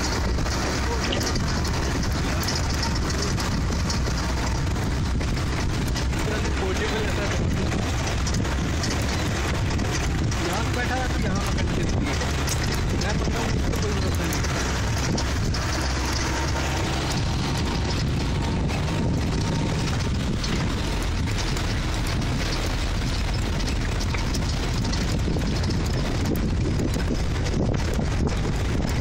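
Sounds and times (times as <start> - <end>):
vehicle driving on gravel: 0.0 - 29.0
wind buffeting microphone: 0.0 - 29.0.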